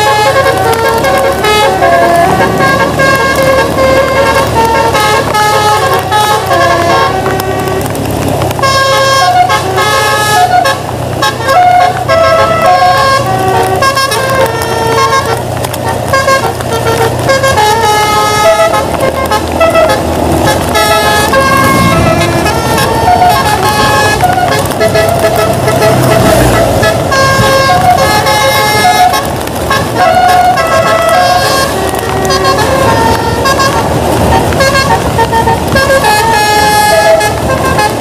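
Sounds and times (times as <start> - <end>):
bus engine drone: 0.0 - 38.0
bus musical air horn tune: 0.0 - 38.0.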